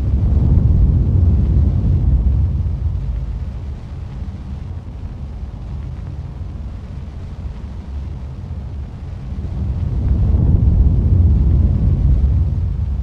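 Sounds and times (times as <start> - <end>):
deep steady rumble: 0.0 - 13.0.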